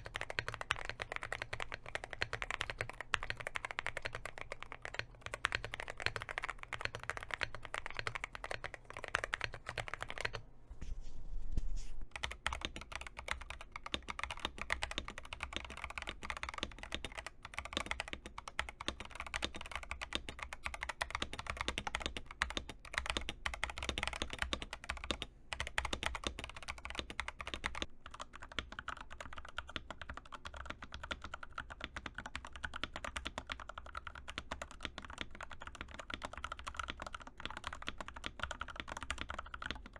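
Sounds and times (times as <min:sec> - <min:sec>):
typing on mechanical keyboard: 0:00.0 - 0:10.4, 0:12.1 - 0:39.9.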